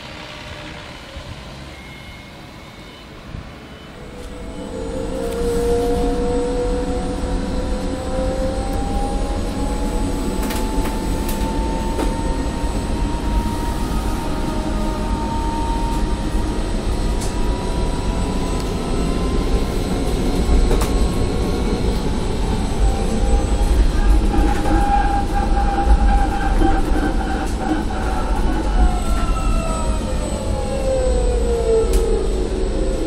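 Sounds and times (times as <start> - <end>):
electric motor whine: 0.0 - 33.0
road rumble: 0.0 - 33.0.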